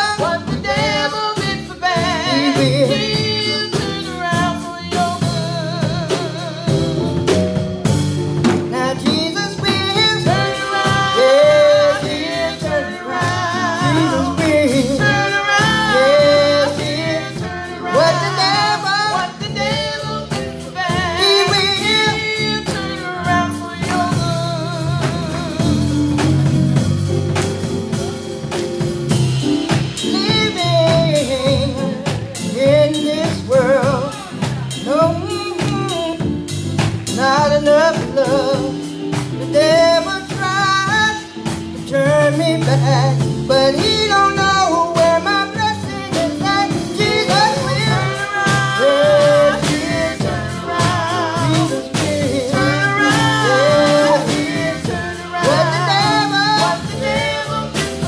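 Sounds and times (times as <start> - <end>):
gospel singers singing: 0.0 - 58.0
live band with bass and drums: 0.0 - 58.0.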